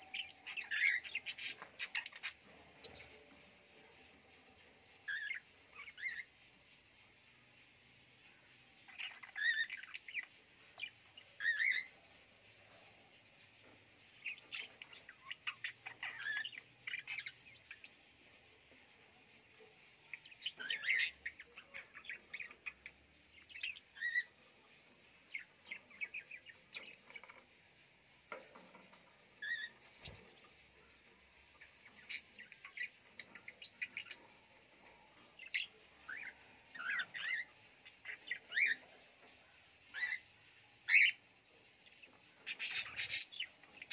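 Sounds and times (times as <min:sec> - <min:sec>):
budgerigars chirping and chattering: 0:00.0 - 0:06.4, 0:08.8 - 0:12.5, 0:13.6 - 0:43.9.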